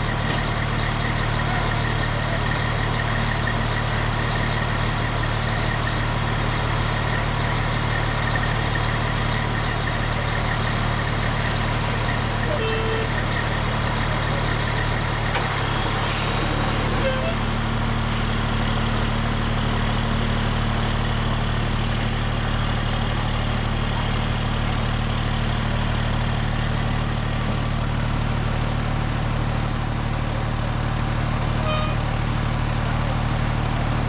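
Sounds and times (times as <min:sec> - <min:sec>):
diesel engines idling: 0:00.0 - 0:34.0.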